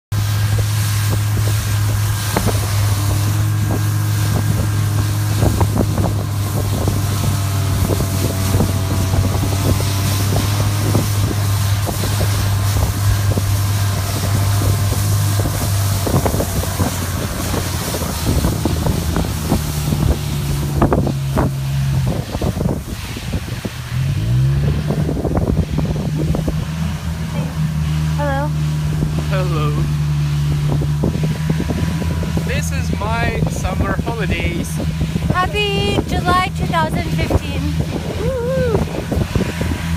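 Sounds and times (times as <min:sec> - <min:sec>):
snowmobile engine running: 0:00.1 - 0:39.9
wind buffeting microphone: 0:00.1 - 0:39.9.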